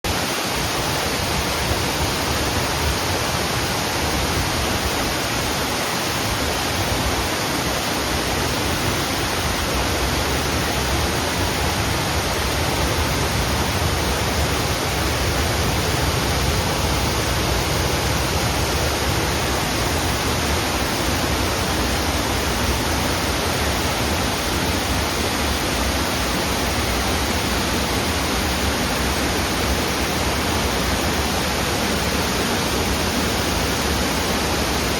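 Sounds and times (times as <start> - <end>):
running water rushing: 0.1 - 34.9.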